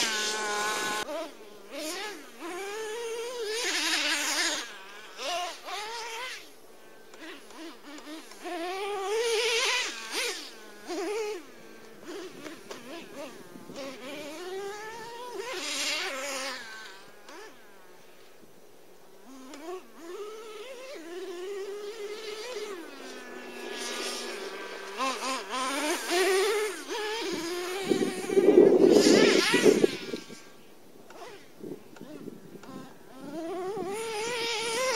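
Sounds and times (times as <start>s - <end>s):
rc truck nitro engine revving: 0.0s - 18.2s, 19.2s - 34.9s.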